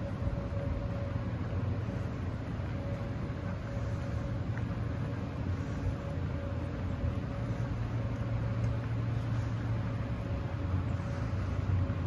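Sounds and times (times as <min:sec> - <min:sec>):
faint constant hum: 0:00.0 - 0:12.0
low outdoor rumble: 0:00.0 - 0:12.0.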